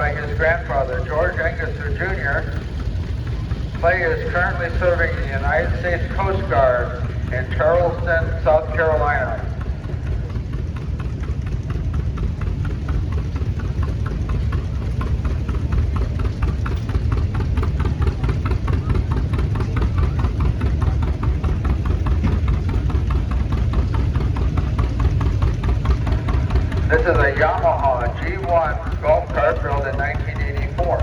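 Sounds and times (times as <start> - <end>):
tractor engine knocking: 0.0 - 31.0.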